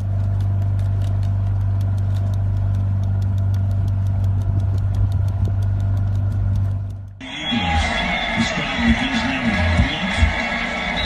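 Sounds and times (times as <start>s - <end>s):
fast even ticking: 0.0s - 11.0s
loud machine hum: 0.0s - 11.0s.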